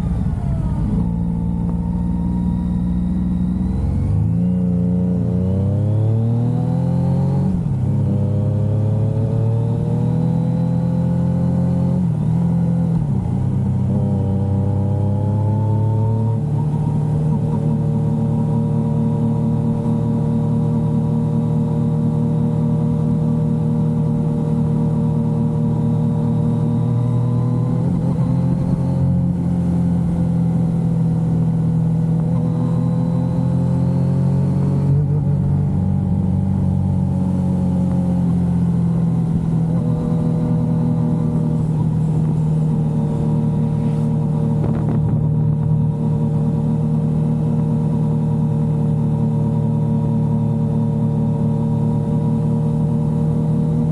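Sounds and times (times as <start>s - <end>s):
motorcycle engine running: 7.5s - 53.9s.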